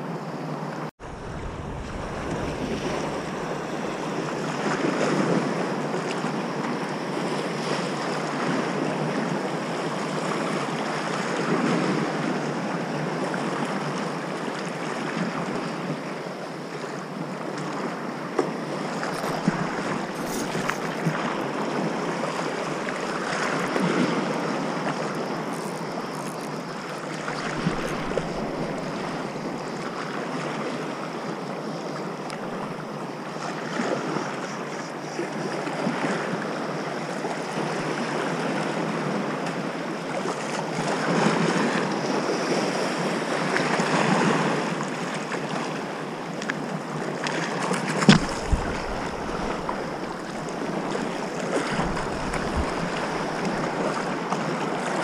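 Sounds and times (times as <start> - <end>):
wind: 0.0 - 55.0
small waves lapping: 1.0 - 55.0.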